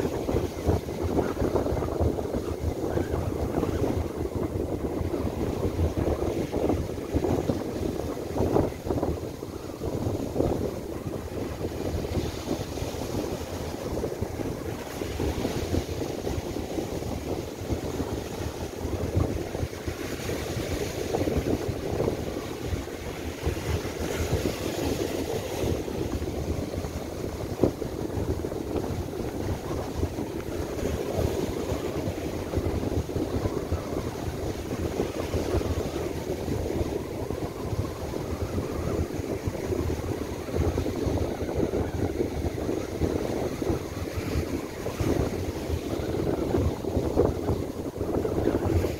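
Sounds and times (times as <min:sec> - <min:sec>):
surf breaking on beach: 0:00.0 - 0:48.9
wind buffeting microphone: 0:00.0 - 0:48.9.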